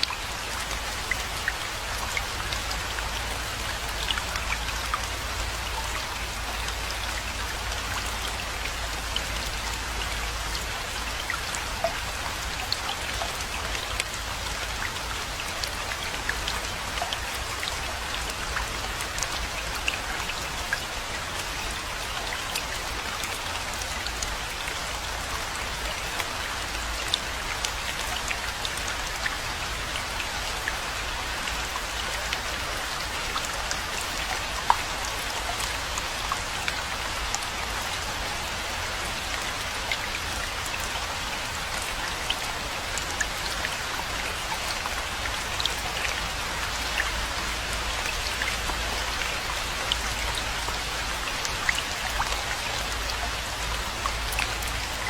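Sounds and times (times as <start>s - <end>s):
raindrops ticking close by: 0.0s - 55.0s.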